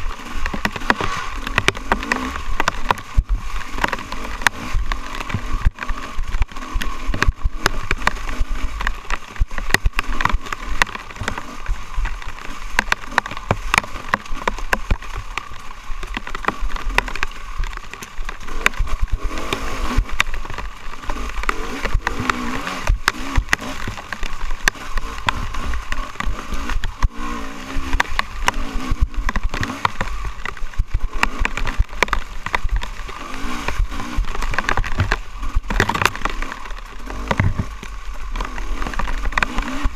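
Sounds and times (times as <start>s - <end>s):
dirt bike engine revving: 0.0s - 39.9s
knocks from bumps: 0.0s - 39.9s.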